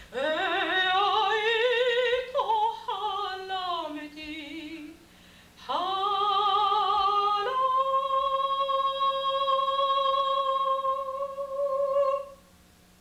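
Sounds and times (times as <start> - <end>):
woman singing unaccompanied: 0.0 - 12.4.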